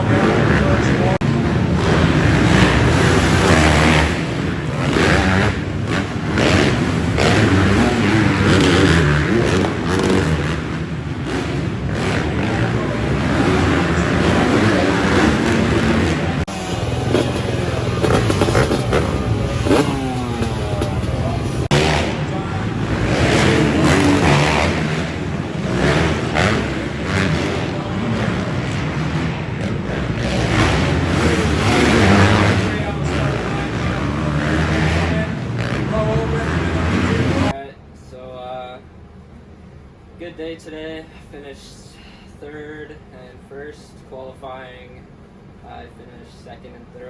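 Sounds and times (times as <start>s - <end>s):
dirt bike engines revving: 0.0s - 38.2s.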